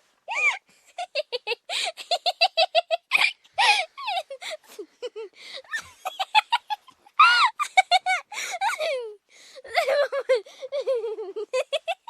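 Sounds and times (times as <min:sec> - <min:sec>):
children giggling: 0:00.3 - 0:12.0.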